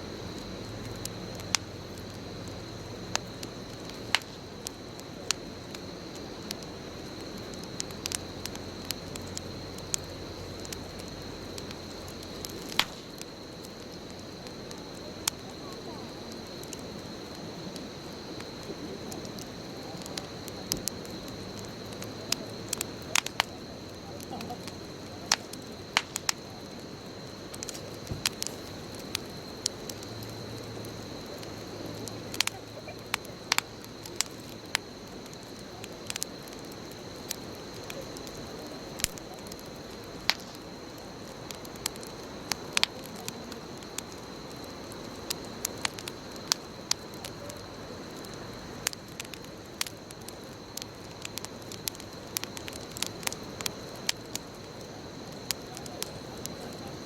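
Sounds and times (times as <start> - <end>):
bonfire flame rushing: 0.0 - 57.0
burning wood popping and crackling: 0.0 - 57.0.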